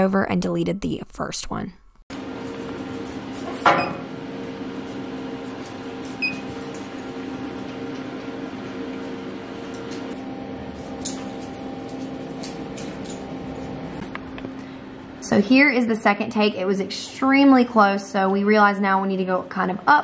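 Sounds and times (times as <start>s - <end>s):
laser engraver fans humming: 2.1s - 20.0s.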